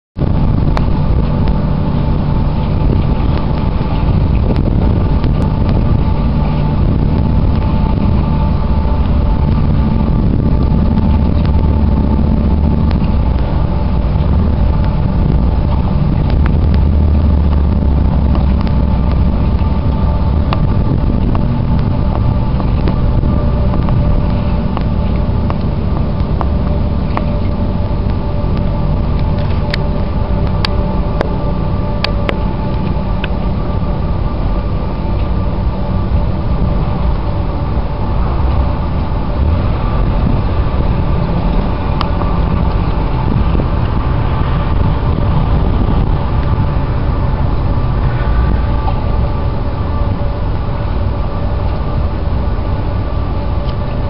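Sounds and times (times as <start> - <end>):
faint even whine: 0.2 - 54.0
low engine rumble: 0.2 - 54.0.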